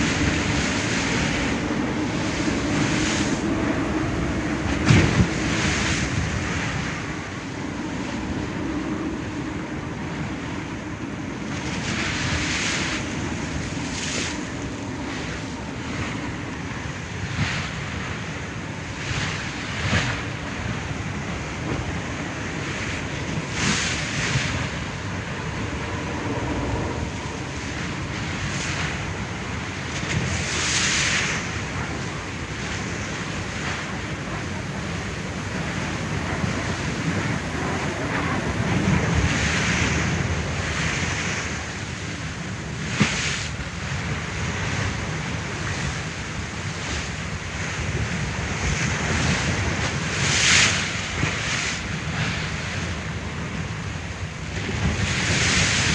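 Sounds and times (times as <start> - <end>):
low rumble of wind: 0.0 - 55.9
ocean waves splashing: 0.0 - 55.9.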